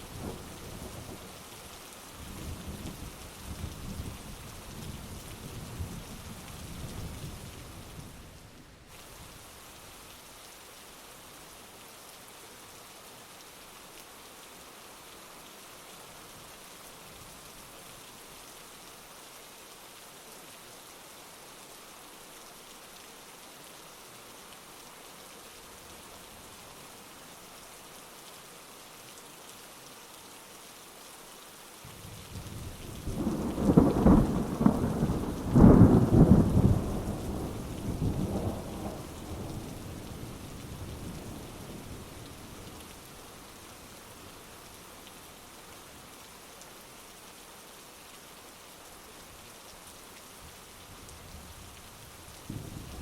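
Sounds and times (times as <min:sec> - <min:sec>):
heavy rain hissing: 0:00.0 - 0:14.3, 0:23.8 - 0:53.0.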